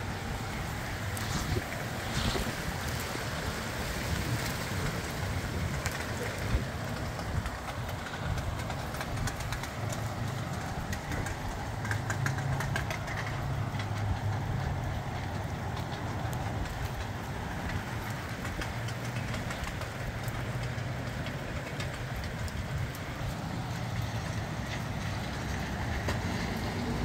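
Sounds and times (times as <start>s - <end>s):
rain ticking: 0.0s - 27.0s
wind rumbling on microphone: 0.0s - 27.0s.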